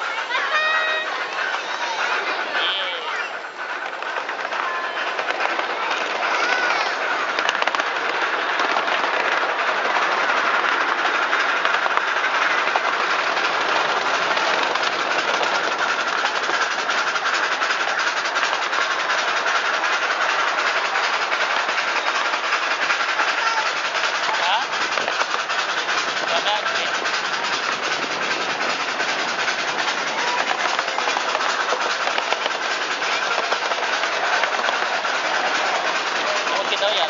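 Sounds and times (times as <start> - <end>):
small train wheels rolling on rails: 0.0 - 37.0.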